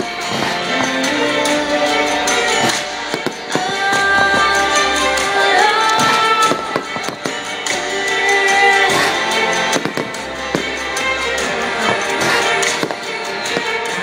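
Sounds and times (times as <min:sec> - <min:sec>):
fireworks bursting and crackling: 0:00.0 - 0:14.0
loud music with sustained notes: 0:00.0 - 0:14.0.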